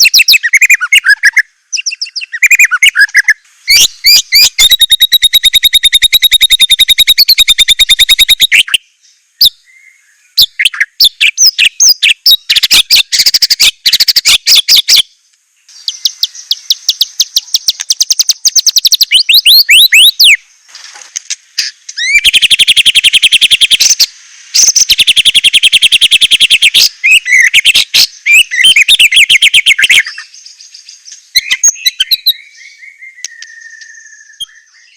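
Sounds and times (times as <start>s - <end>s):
songbird singing fast trills: 0.0s - 20.6s, 21.6s - 34.9s.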